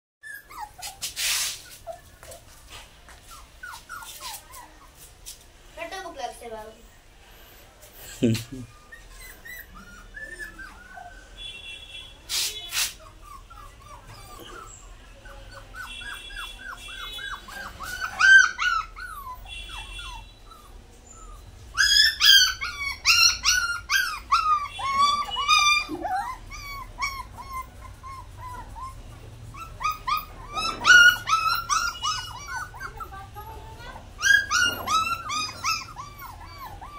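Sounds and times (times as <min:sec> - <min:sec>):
puppies whining and yelping: 0:00.2 - 0:05.1, 0:08.6 - 0:11.4, 0:12.9 - 0:36.9.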